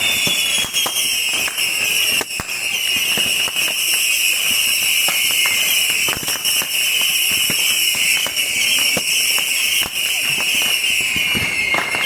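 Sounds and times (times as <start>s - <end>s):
bottle rockets shrieking: 0.0s - 12.0s
firework bangs and cracks: 0.0s - 12.0s.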